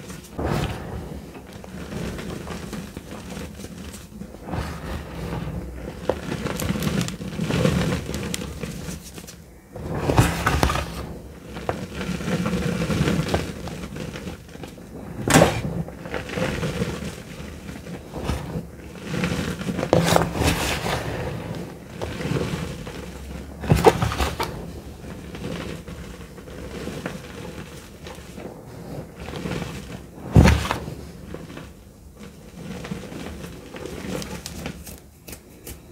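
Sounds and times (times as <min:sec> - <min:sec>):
hands crushing powdery chalk: 0:00.0 - 0:35.9.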